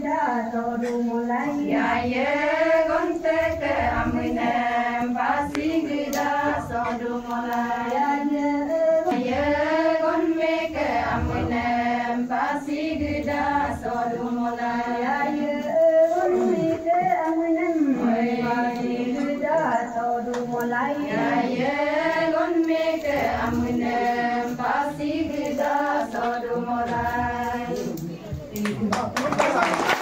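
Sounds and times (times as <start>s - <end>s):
women singing together: 0.0s - 29.1s.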